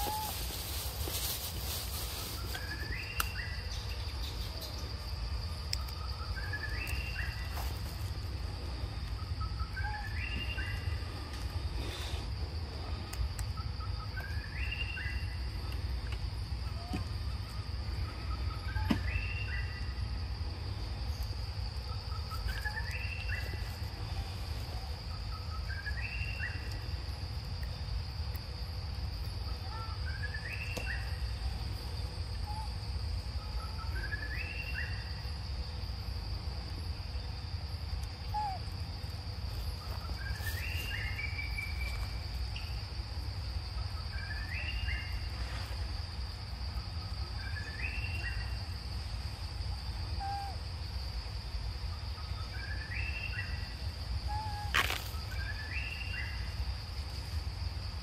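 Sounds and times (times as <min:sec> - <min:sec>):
insect chorus drone: 0:00.0 - 0:58.0
low background rumble: 0:00.0 - 0:58.0.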